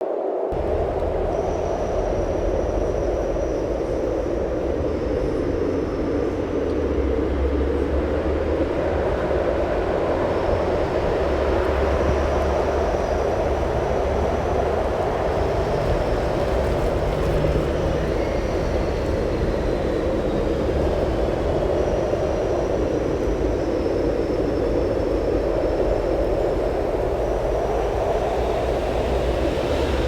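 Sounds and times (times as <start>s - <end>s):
strong wind roaring: 0.0s - 30.0s
thin wind whistle: 0.0s - 30.0s.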